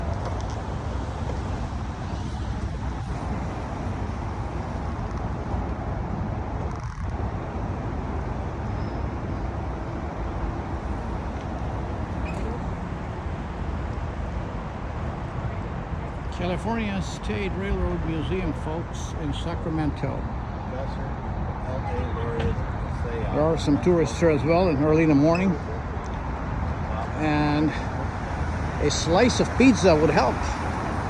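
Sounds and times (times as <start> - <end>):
outdoor street noise rumble: 0.0 - 31.0.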